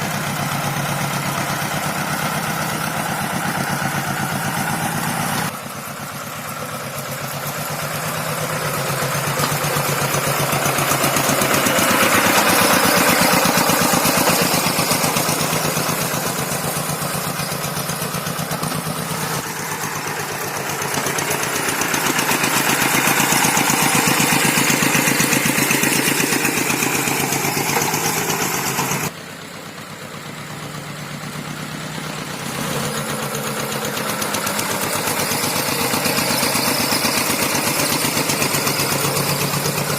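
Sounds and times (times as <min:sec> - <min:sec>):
tractor engine under load: 0:00.0 - 0:39.9.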